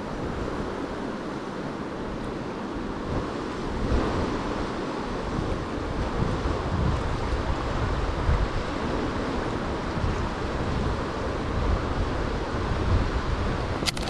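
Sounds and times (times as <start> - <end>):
river current rushing: 0.0 - 14.0
wind buffeting the microphone: 0.0 - 14.0.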